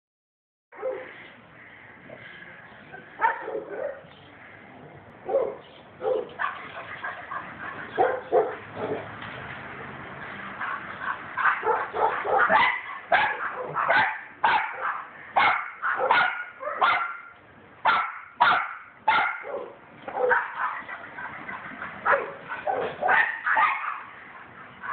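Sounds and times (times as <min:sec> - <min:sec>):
dogs barking: 0:00.7 - 0:01.2, 0:02.9 - 0:04.1, 0:05.2 - 0:09.2, 0:09.8 - 0:24.9.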